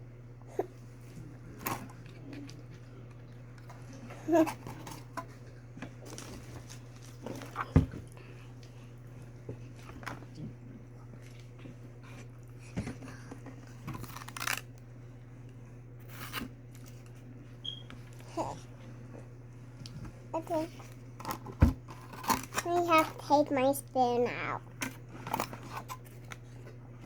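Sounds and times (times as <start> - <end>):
steady low hum: 0.0 - 27.0
eating and food handling noises: 0.4 - 27.0.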